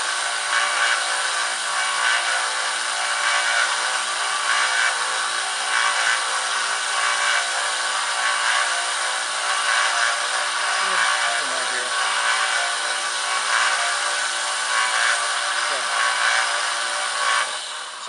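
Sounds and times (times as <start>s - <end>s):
belt sander grinding blade: 0.0s - 18.0s.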